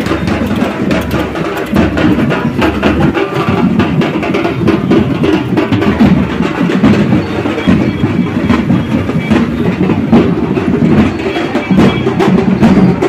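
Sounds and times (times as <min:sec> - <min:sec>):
frame drum beating: 0:00.0 - 0:13.0
steel-shelled drum beating: 0:00.0 - 0:13.0.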